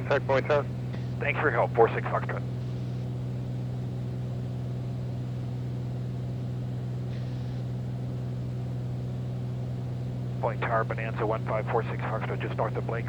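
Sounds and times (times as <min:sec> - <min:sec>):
airplane engine drone: 0:00.0 - 0:13.0.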